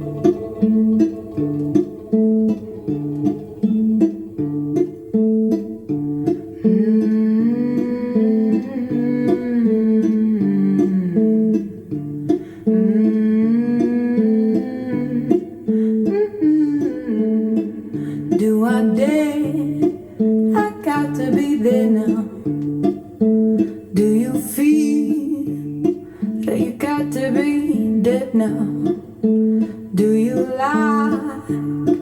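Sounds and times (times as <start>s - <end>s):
guitar picking notes: 0.0s - 32.0s.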